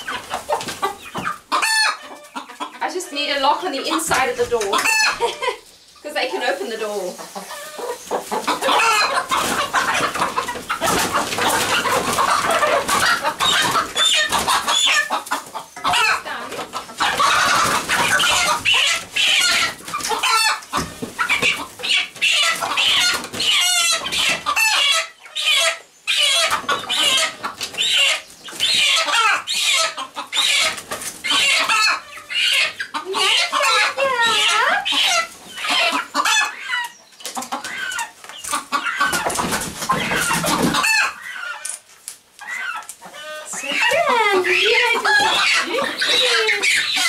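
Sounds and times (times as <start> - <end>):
young chickens clucking and squawking: 0.0 - 47.0.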